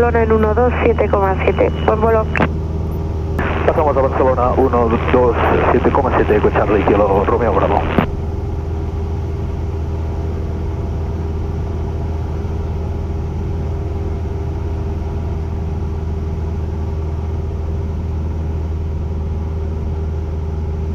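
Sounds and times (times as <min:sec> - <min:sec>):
airplane engine and propeller droning: 0:00.0 - 0:20.9.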